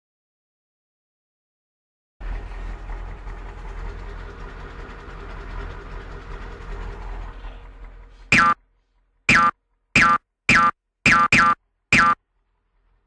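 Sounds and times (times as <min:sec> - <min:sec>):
heavy vehicle engine rumbling: 0:02.2 - 0:13.0.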